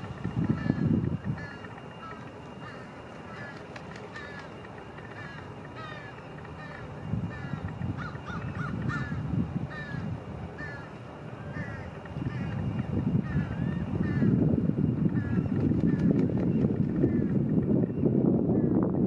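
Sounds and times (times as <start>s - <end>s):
wind rumble on microphone: 0.0s - 3.5s, 6.6s - 10.8s, 11.4s - 19.0s.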